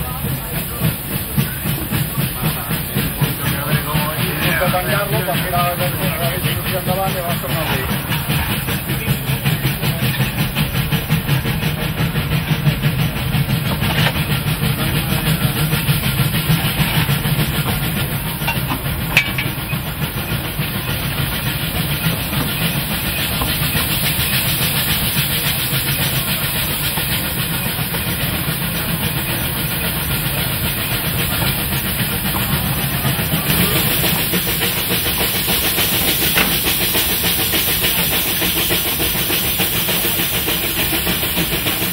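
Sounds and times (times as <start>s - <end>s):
steam train running on track: 0.0s - 41.9s.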